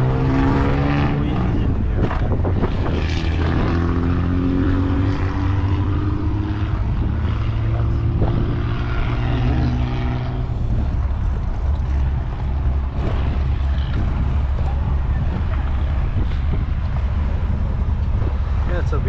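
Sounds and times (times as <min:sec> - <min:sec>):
engine droning: 0:00.0 - 0:19.0
wind rumbling on microphone: 0:00.0 - 0:19.0.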